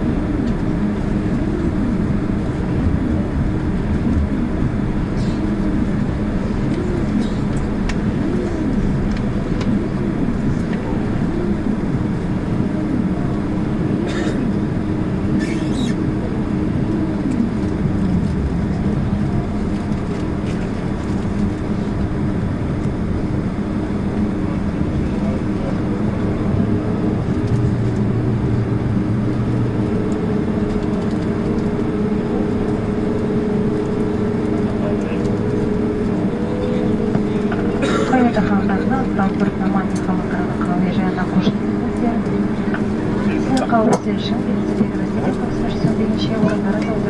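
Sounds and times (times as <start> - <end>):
airplane cabin engine hum: 0.0 - 47.0.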